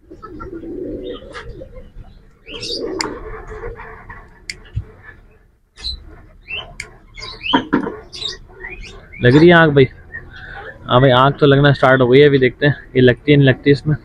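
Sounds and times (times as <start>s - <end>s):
pigeons cooing: 0.0s - 14.0s
small birds chirping: 0.0s - 14.0s.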